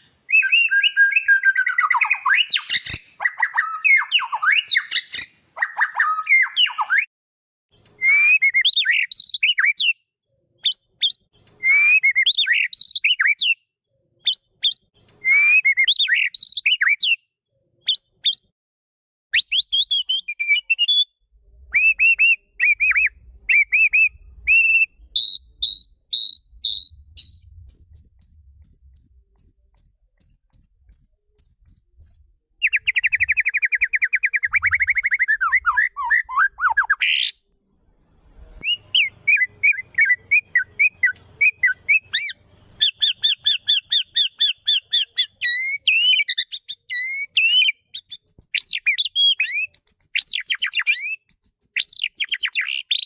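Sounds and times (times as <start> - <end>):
bird singing whistled notes: 0.0 - 7.1, 7.8 - 18.5, 19.4 - 53.0.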